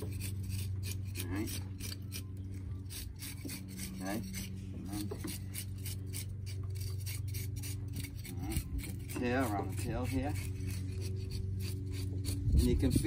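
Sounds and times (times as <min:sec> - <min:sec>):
knife scraping fish scales: 0:00.0 - 0:13.0
steady low hum: 0:00.0 - 0:13.0.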